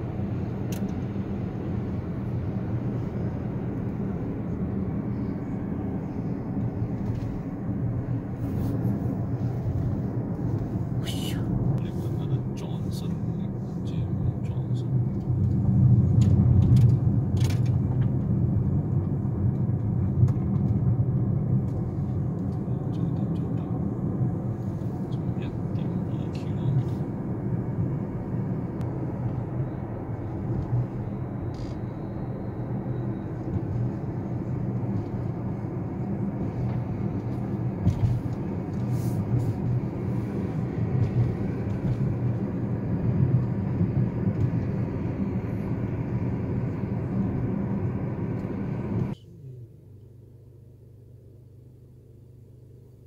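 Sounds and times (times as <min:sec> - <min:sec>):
car engine rumble: 0:00.0 - 0:53.0
low hum: 0:00.0 - 0:53.0
road and tyre noise: 0:00.0 - 0:53.0.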